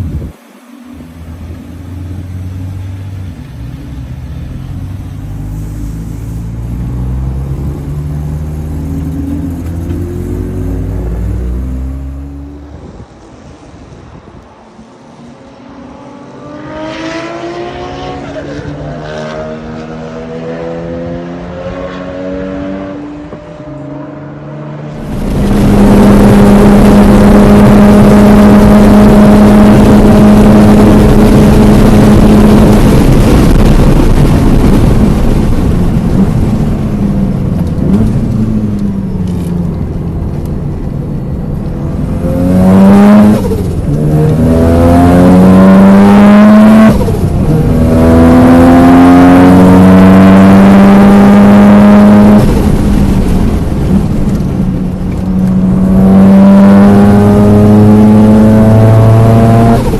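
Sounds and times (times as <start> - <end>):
rotary engine accelerating: 0.0 - 13.3, 15.3 - 59.9.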